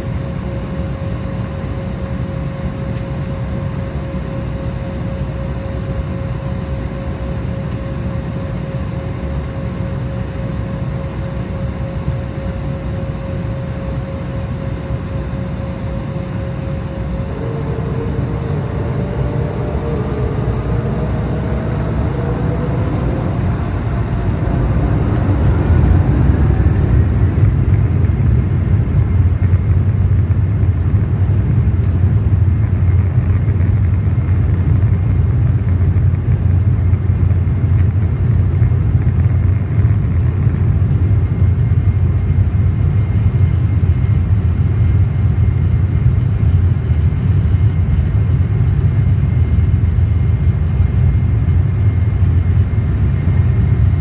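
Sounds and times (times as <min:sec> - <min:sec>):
jet engines spooling up in cabin: 0:00.0 - 0:54.0.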